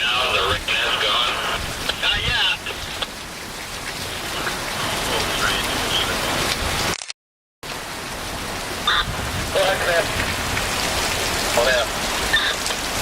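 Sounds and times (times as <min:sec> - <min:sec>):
heavy rain hissing: 0:00.0 - 0:06.9, 0:07.7 - 0:13.0.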